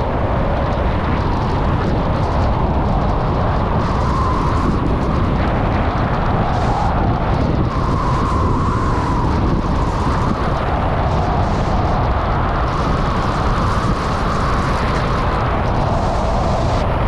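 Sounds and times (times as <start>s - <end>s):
heavy wind rumble: 0.0s - 17.0s.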